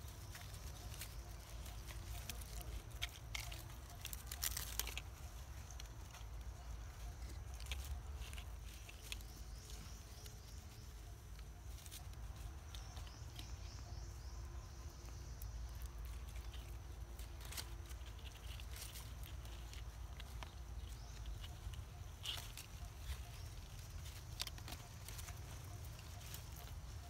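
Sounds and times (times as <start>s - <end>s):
light ticks and rustles: 0.0s - 27.0s.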